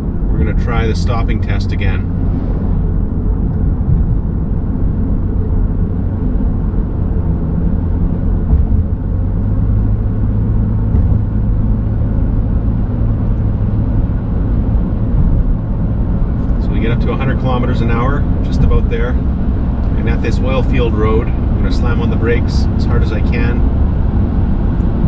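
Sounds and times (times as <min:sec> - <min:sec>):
car engine drone: 0:00.0 - 0:25.0
tyre and road noise: 0:00.0 - 0:25.0.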